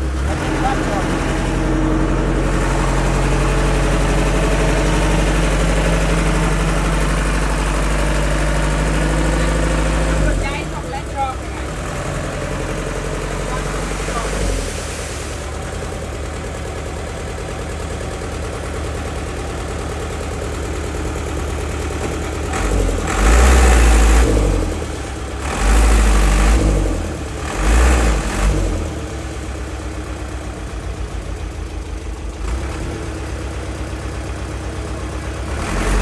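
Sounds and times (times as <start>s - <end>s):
heavy diesel engine idling and revving: 0.0s - 36.0s.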